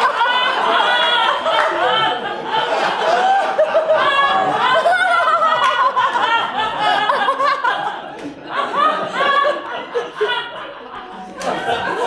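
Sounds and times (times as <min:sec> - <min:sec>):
group of people laughing: 0:00.0 - 0:12.0.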